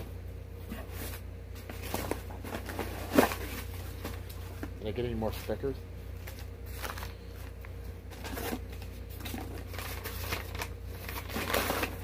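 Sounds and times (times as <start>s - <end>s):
steady low hum: 0.0s - 12.0s
paper and cardboard rustling: 0.7s - 5.6s, 6.2s - 12.0s.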